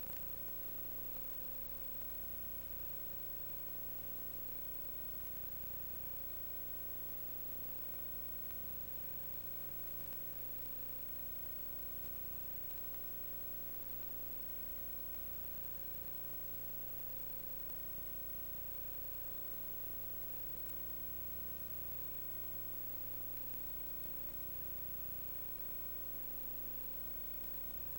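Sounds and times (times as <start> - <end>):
electrical hum with thin tone: 0.0 - 27.9
steady hiss: 0.0 - 27.9.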